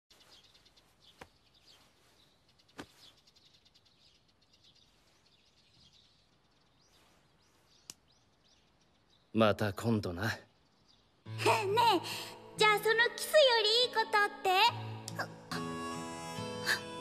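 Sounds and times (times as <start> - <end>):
birds chirping: 0.1 - 13.8.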